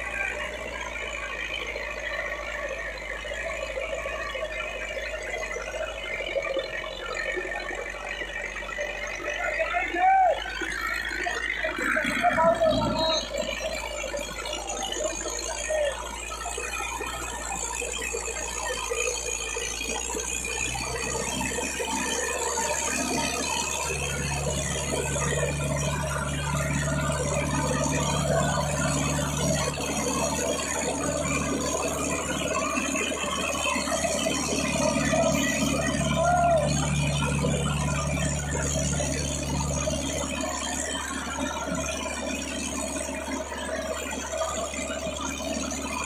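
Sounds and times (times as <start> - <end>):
tractor engine under load: 0.0 - 46.0.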